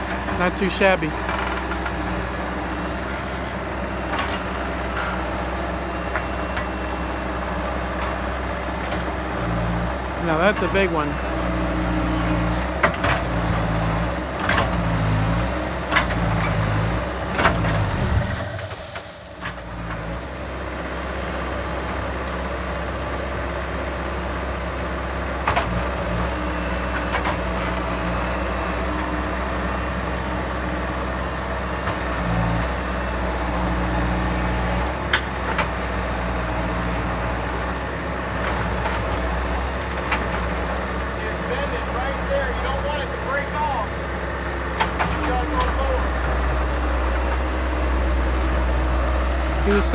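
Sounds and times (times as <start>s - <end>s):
diesel engine under load: 0.0s - 49.9s.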